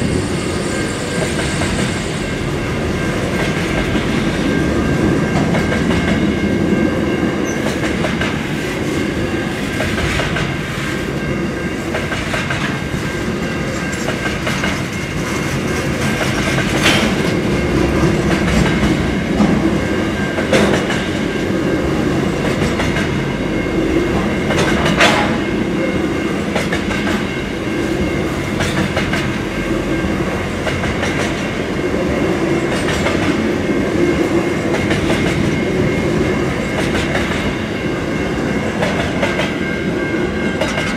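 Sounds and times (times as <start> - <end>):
wheels rumbling on rails: 0.0 - 40.9.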